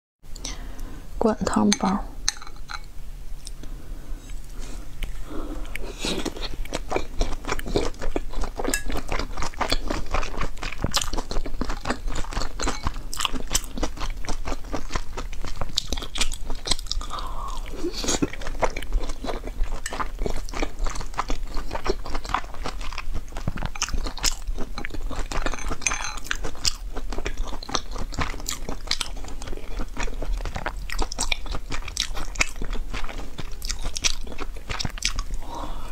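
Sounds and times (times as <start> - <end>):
chewing soft dumplings: 3.3 - 35.9.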